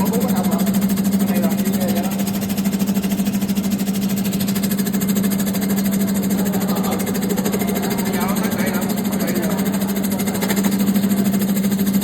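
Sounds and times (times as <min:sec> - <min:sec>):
slicing machine running: 0:00.0 - 0:12.0.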